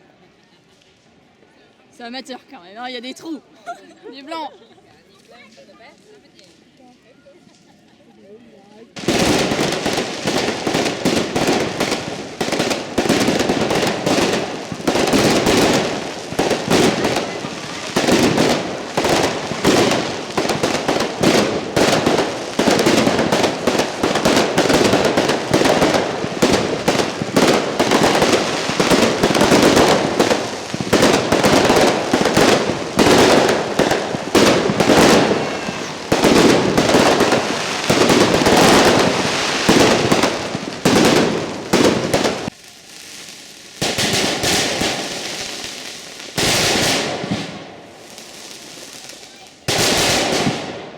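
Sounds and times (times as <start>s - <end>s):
fireworks bangs and crackling: 8.9s - 50.9s.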